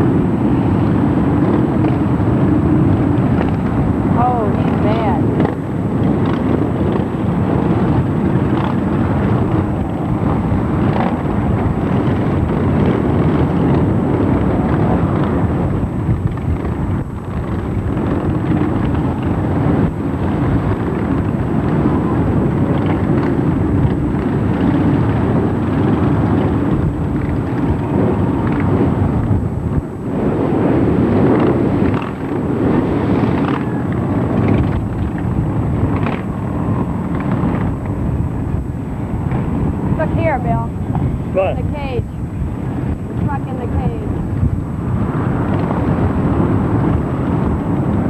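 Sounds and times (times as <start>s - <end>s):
vehicle engines rumbling: 0.0s - 48.0s.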